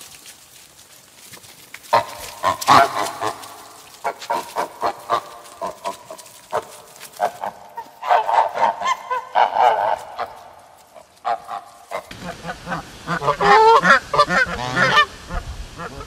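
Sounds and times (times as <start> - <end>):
geese honking: 1.9 - 16.0.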